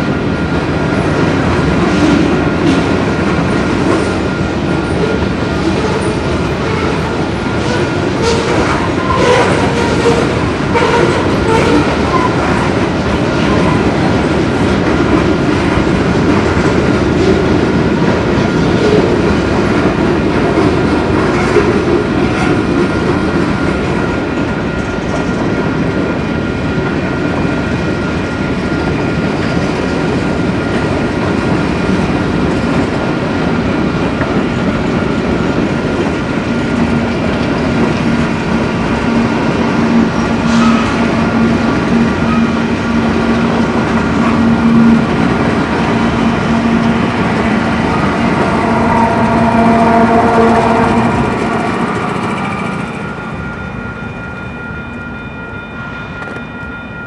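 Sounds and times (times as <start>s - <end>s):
train wheels clicking on rails: 0.0s - 53.7s.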